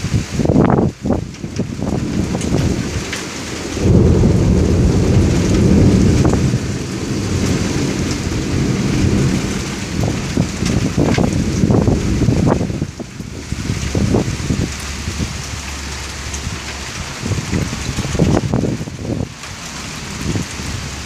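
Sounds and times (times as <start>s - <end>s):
steady rain: 0.0s - 21.0s
thunder rumbling: 0.4s - 21.0s.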